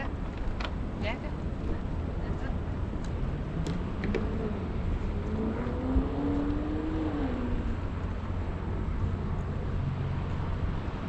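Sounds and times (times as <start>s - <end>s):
passing engine hum: 0.0s - 11.0s
steady low rumble: 0.0s - 11.0s.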